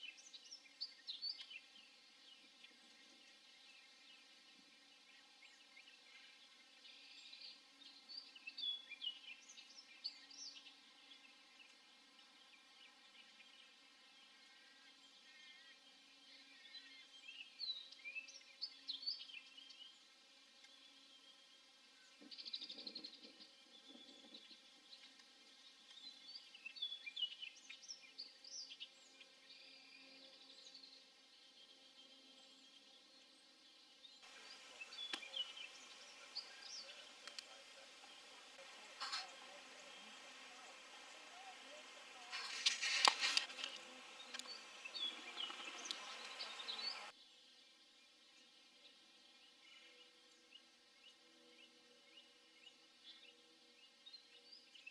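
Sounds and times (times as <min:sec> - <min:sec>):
birds chirping and twittering: 0:00.0 - 0:54.9
low steady hiss: 0:00.0 - 0:54.9.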